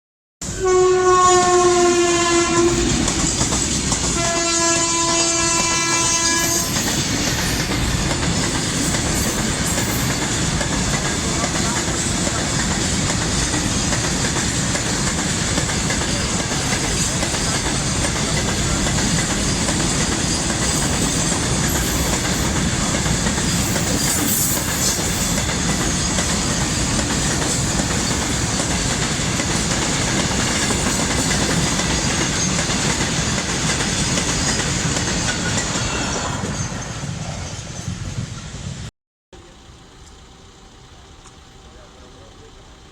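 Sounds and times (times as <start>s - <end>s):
train wheels clattering on rails: 1.9s - 4.9s, 5.5s - 38.4s.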